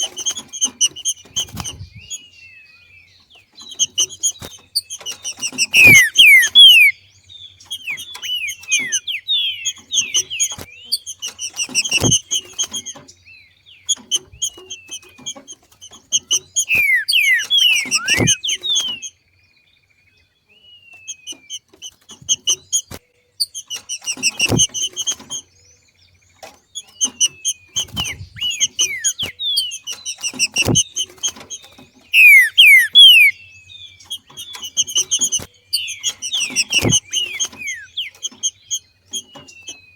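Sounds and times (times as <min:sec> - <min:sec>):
bird calling in quick bursts: 0:03.6 - 0:13.1, 0:13.8 - 0:19.2, 0:21.0 - 0:25.5, 0:26.7 - 0:39.9.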